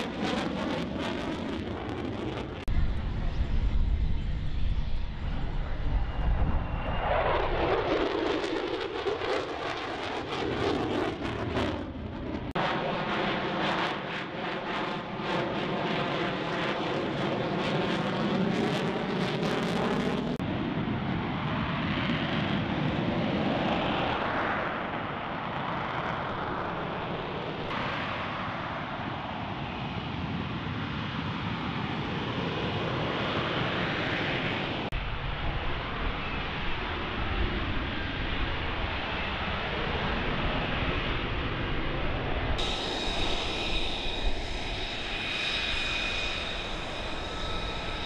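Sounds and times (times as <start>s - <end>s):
jet engine roar hovering: 0.0s - 48.0s
jet passing overhead: 0.0s - 48.0s.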